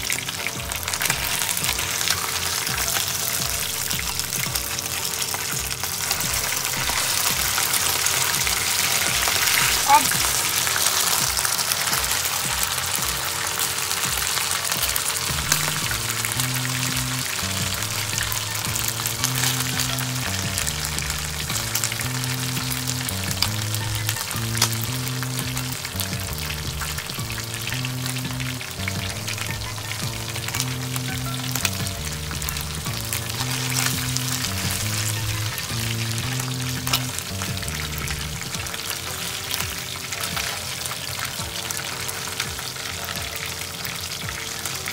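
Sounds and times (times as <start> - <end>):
background music with bass line: 0.0 - 44.9
chicken sizzling in hot oil: 0.0 - 44.9.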